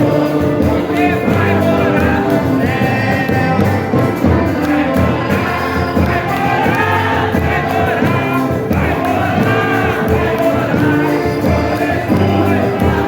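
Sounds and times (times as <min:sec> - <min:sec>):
congregation singing a hymn: 0:00.0 - 0:13.0
instrumental accompaniment: 0:00.0 - 0:13.0.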